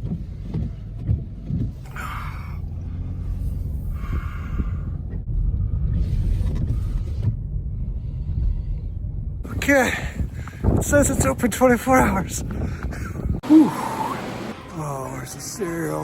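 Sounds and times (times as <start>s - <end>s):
car cabin low rumble: 0.0s - 13.4s.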